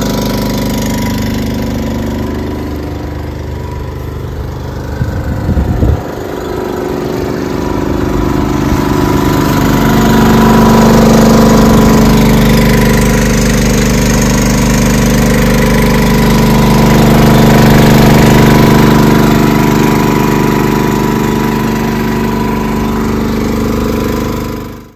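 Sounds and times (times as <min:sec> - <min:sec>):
water spraying: 0:00.0 - 0:24.4
small petrol engine running: 0:00.0 - 0:24.9.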